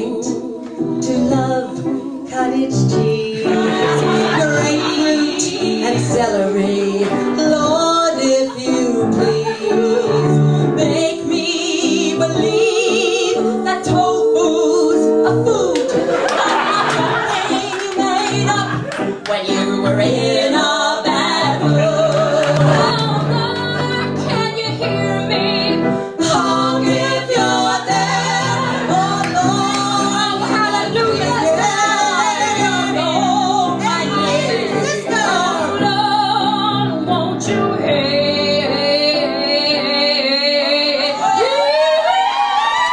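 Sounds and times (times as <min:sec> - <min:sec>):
piano accompaniment: 0:00.0 - 0:42.9
women singing together: 0:00.0 - 0:42.9.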